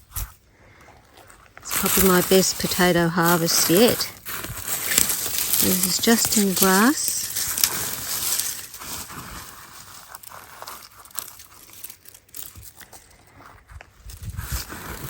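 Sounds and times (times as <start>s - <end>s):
hands rustling grass clippings: 1.1s - 15.0s.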